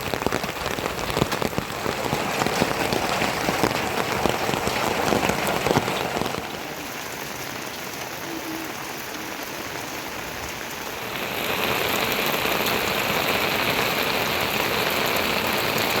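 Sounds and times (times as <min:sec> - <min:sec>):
heavy rain falling: 0:00.0 - 0:16.0
raindrops hitting a surface: 0:00.0 - 0:16.0.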